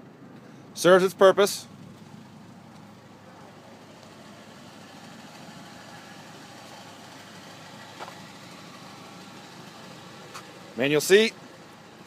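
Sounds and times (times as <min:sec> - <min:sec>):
engine idling faintly: 0:00.0 - 0:12.0.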